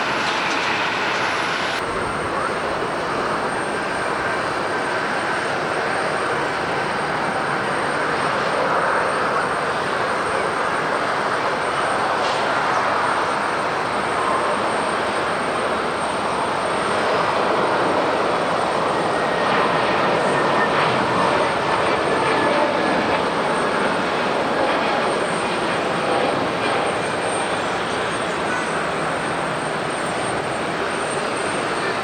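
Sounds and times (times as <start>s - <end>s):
jet engines at takeoff thrust: 0.0s - 32.0s.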